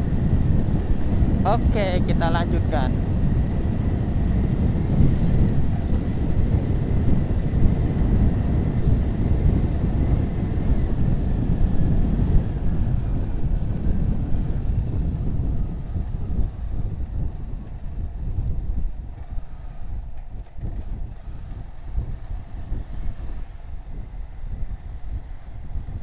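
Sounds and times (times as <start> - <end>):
motorcycle running: 0.0 - 26.0
wind rushing over microphone: 0.0 - 26.0.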